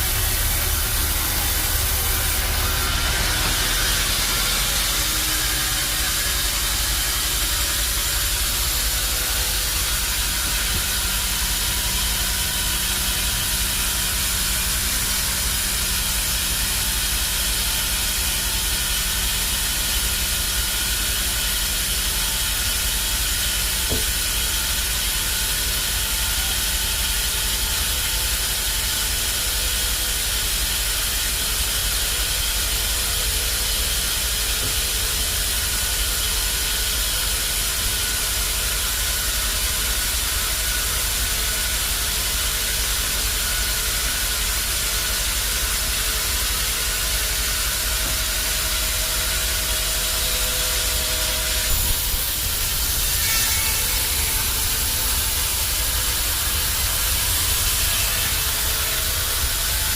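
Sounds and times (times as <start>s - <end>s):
band saw hissing with whine: 0.0s - 59.9s.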